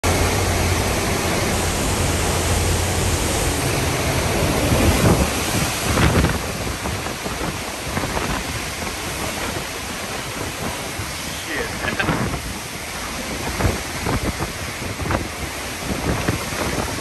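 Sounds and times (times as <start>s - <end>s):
driving rain: 0.0s - 17.0s
hurricane wind: 0.0s - 17.0s
wind buffeting microphone: 0.1s - 17.0s.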